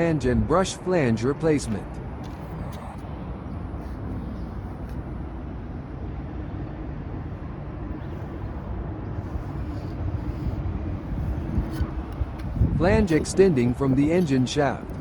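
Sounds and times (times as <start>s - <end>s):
faint steady hum: 0.0s - 15.0s
low rumbling background noise: 0.0s - 15.0s.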